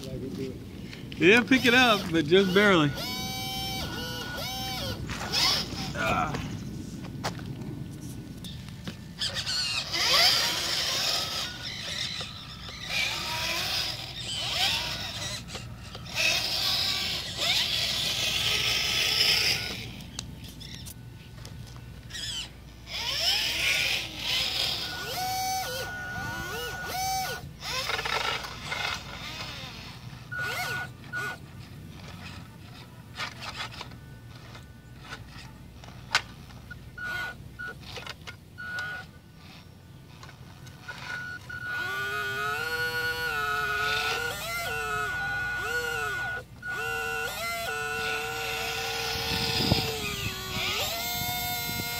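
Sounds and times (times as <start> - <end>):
small electric motors whirring: 0.0 - 51.9.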